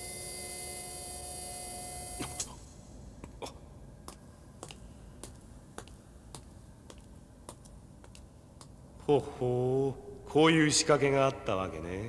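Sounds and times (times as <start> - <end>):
steady electronic hum: 0.0 - 12.0.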